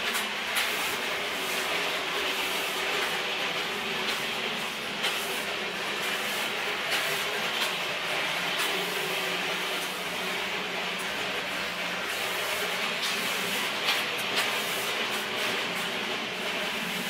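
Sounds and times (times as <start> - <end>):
shop machinery hum and hiss: 0.0 - 17.0.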